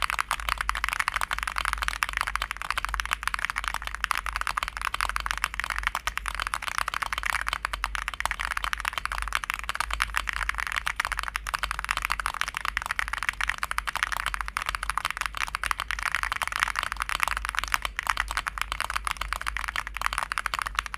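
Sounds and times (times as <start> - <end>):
fast typing on mechanical keyboard: 0.0 - 20.9.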